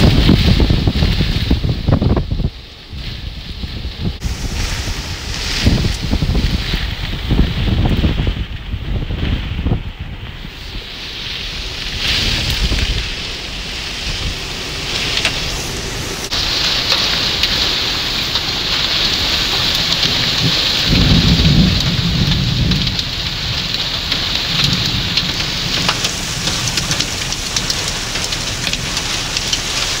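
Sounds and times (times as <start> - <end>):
deep storm rumble: 0.0 - 30.0
heavy rain hissing: 0.0 - 30.0.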